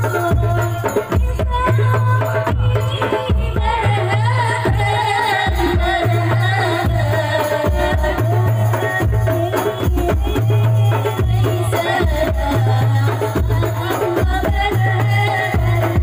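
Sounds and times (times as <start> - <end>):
hand drums: 0.0 - 16.0.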